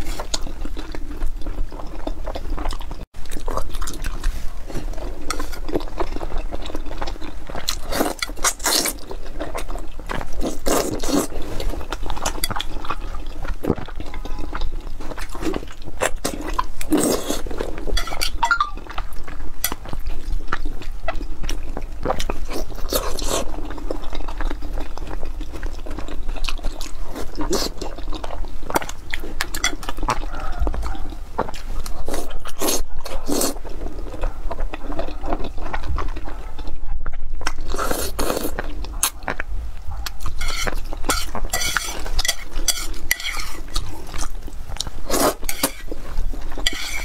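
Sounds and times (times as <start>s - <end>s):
wet chewing and mouth smacking: 0.0s - 47.0s.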